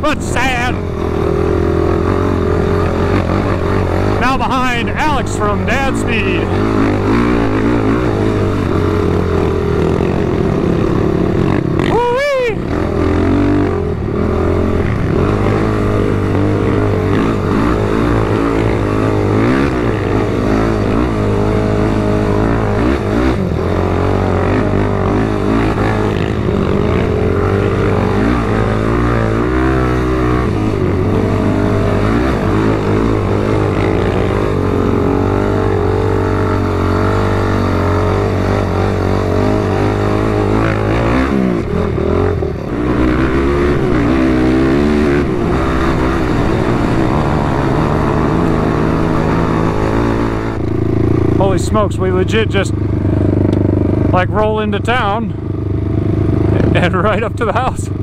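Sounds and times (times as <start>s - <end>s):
atv engine under throttle: 0.0s - 58.0s.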